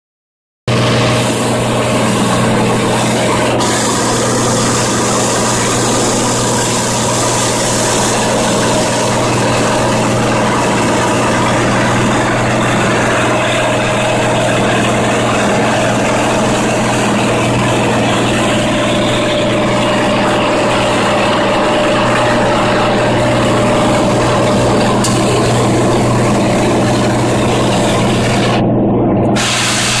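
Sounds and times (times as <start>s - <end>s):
airplane engine and propeller drone: 0.7s - 30.0s.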